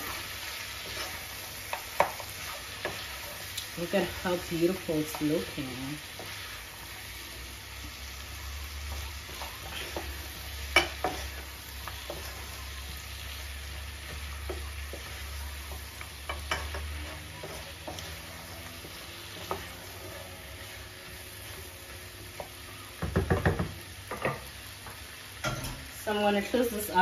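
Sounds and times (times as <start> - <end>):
wooden spoon stirring: 0.0 - 7.3, 7.9 - 23.4
stew sizzling in a pot: 0.0 - 27.0.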